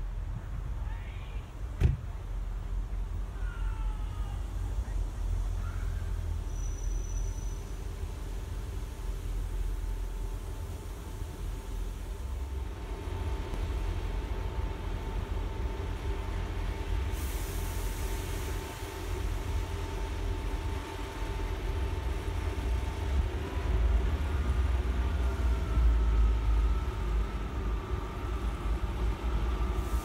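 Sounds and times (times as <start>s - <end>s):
diesel train engine drone: 0.0s - 30.0s.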